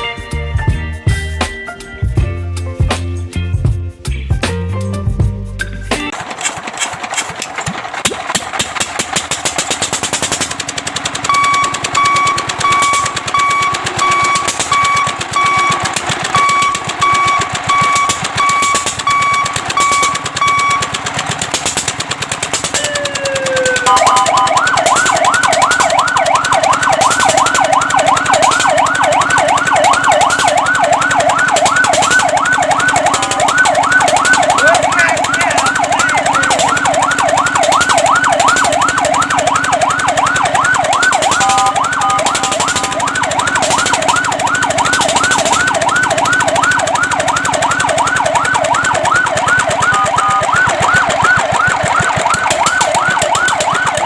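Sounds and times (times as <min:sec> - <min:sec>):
fire truck siren: 0:09.1 - 0:54.0.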